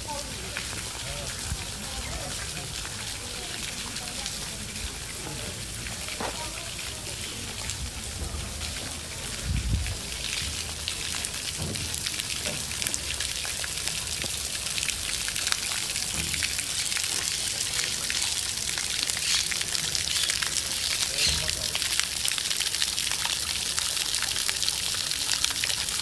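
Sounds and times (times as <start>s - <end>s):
waterfall splashing into pond: 0.0s - 26.0s.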